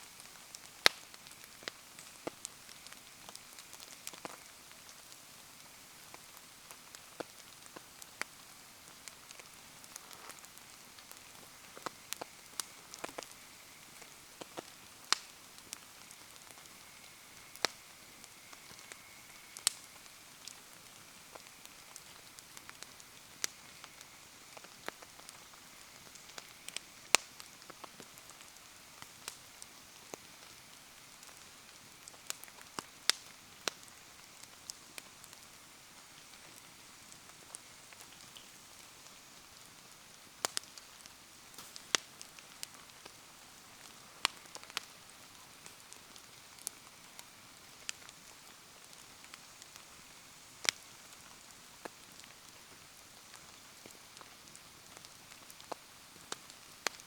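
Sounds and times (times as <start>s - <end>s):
rain falling: 0.0s - 57.0s
wood fire crackling: 0.0s - 57.0s.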